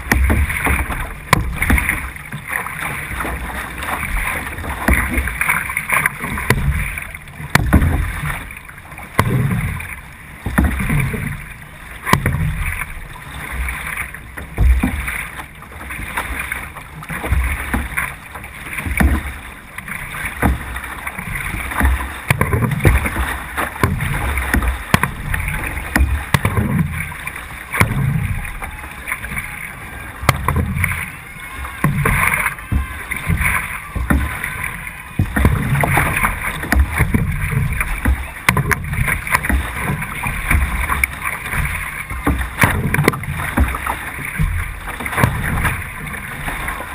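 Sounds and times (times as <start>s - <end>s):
paddle strokes surging water: 0.0s - 46.9s
water rushing past hull: 0.0s - 46.9s.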